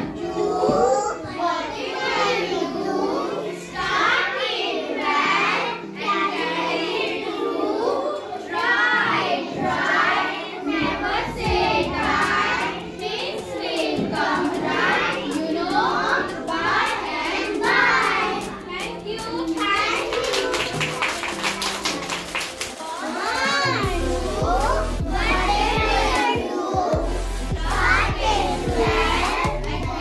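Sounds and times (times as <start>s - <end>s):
children singing: 0.0s - 21.1s, 22.8s - 30.0s.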